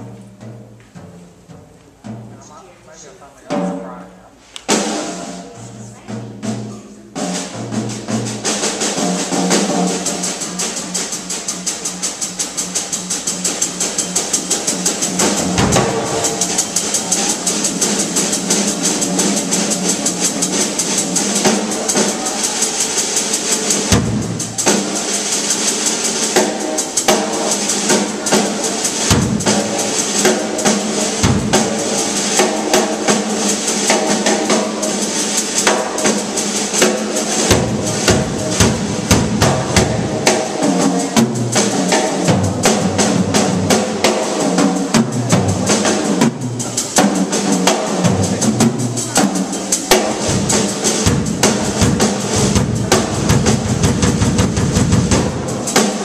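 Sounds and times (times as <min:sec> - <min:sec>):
snare and tom strokes: 0:00.0 - 0:05.6, 0:06.3 - 0:56.0
ringing cymbals: 0:08.0 - 0:54.2.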